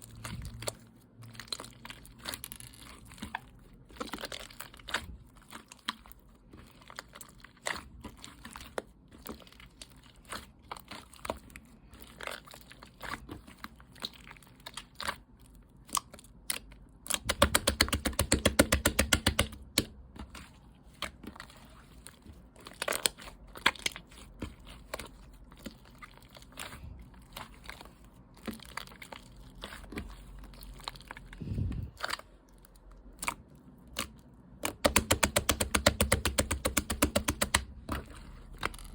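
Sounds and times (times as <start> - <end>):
slime squishing with sticky clicks: 0.0 - 31.4, 32.0 - 38.9.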